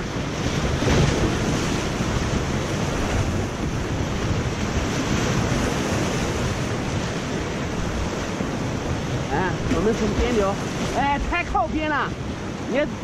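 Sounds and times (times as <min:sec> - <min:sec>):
rapids rushing and splashing: 0:00.0 - 0:13.0
wind buffeting microphone: 0:00.0 - 0:13.0.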